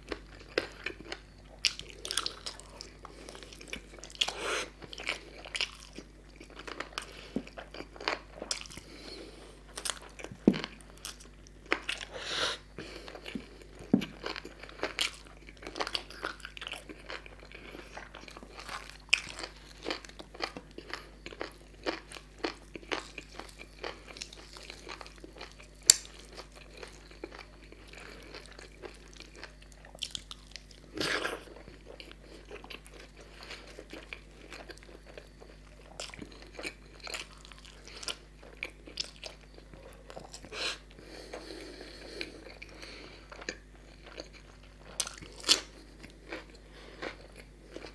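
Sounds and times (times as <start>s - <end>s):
person chewing with wet mouth sounds: 0.0s - 47.9s.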